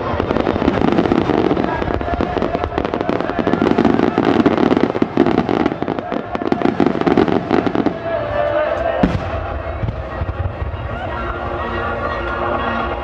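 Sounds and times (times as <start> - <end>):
rapid fireworks bangs and crackles: 0.0 - 13.0.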